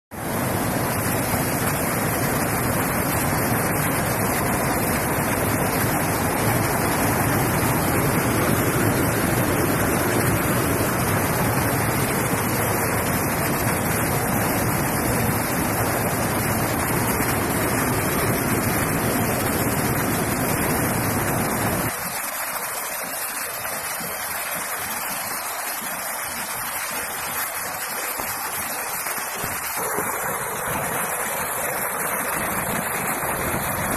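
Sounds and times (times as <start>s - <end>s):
rainwater runoff pouring: 0.1s - 33.9s.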